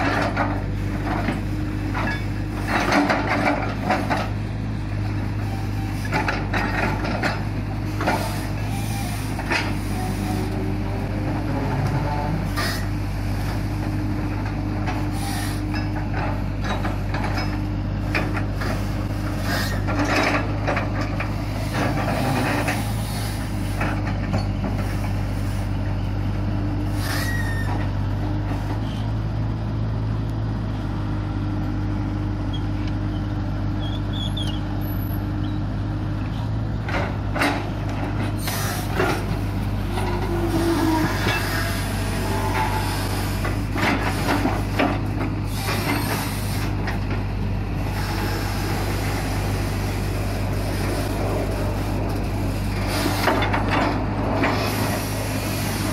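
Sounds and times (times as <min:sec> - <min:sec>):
excavator diesel engine running: 0:00.0 - 0:55.9
higher engine whine: 0:00.0 - 0:55.9.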